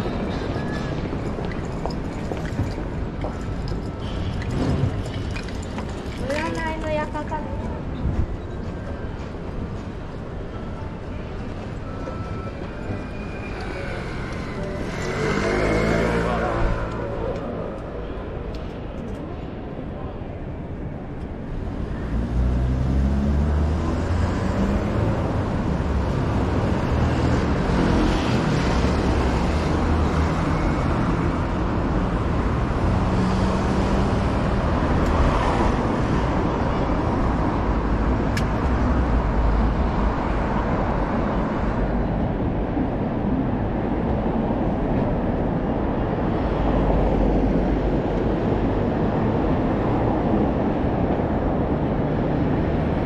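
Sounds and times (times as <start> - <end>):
street traffic passing: 0.0 - 53.0.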